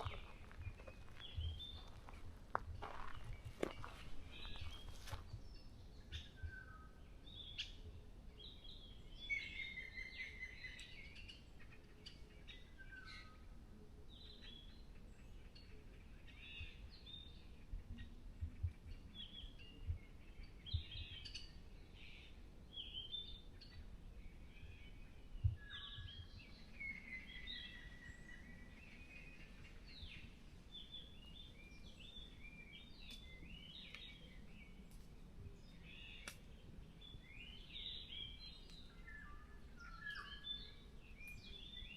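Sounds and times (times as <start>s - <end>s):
birds singing and calling: 0.0s - 13.5s, 14.1s - 41.9s.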